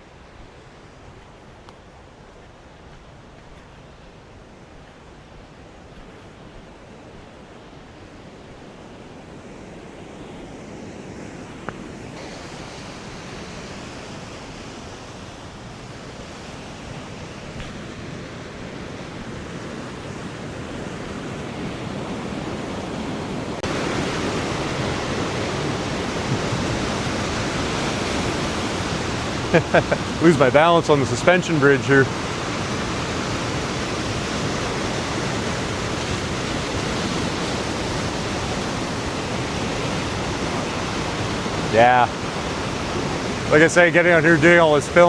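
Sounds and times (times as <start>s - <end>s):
river water rushing at waterfall: 0.0s - 45.0s.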